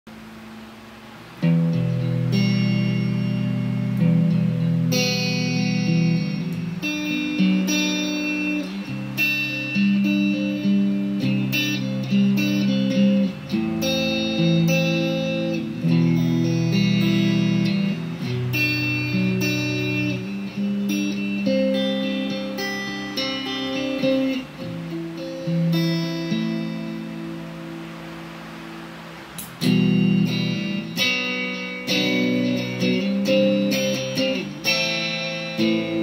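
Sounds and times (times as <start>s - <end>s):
electric guitar chords ringing: 0.1s - 36.0s.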